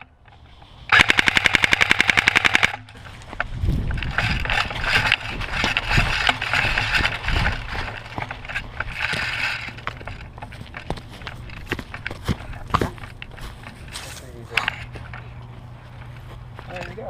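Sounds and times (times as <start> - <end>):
rustling and scraping: 2.6 - 17.0.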